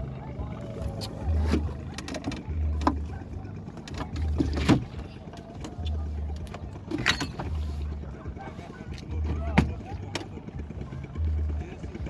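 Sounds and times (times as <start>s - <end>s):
small boat moving on water: 0.0s - 12.0s.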